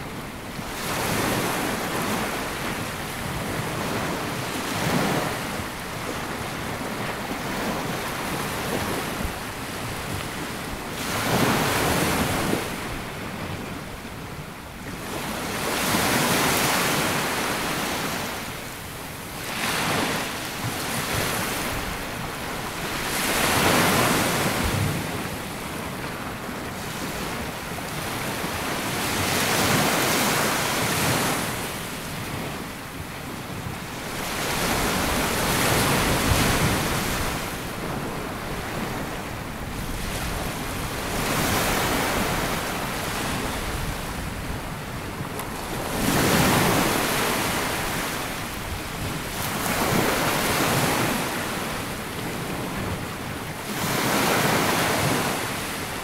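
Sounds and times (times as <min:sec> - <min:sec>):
wind on microphone: 0:00.0 - 0:56.0
small waves breaking on beach: 0:00.1 - 0:56.0.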